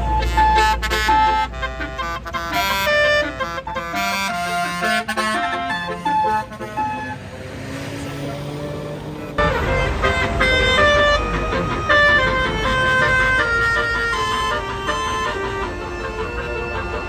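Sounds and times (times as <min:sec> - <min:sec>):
multi-note air horn melody: 0:00.0 - 0:17.0.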